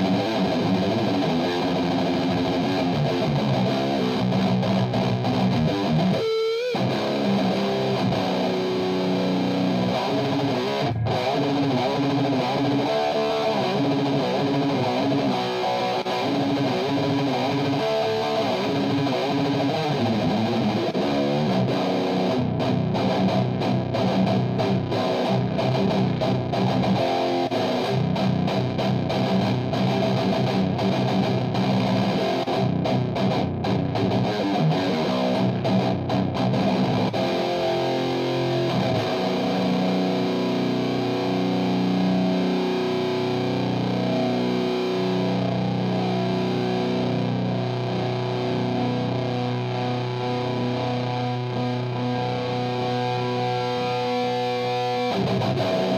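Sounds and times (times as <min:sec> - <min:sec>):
distorted electric guitar riffing: 0:00.0 - 0:55.9
guitar squealing bend: 0:00.0 - 0:55.9.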